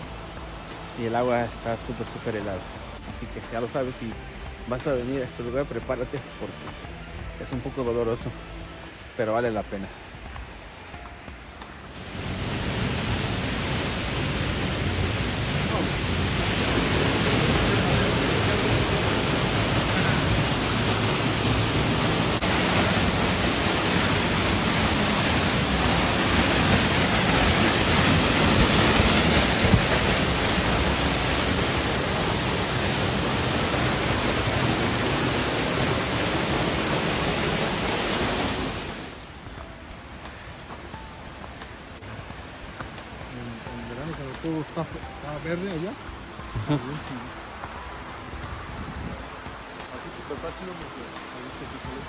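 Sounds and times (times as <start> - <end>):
waterfall rushing and splashing: 0.0 - 52.0.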